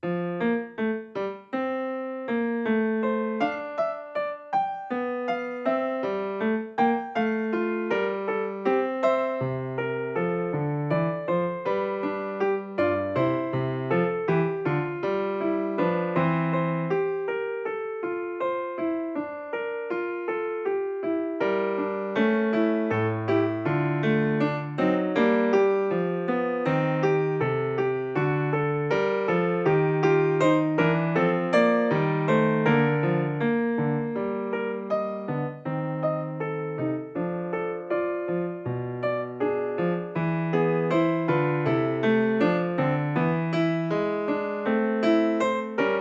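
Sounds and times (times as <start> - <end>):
piano playing short notes: 0.0 - 46.0.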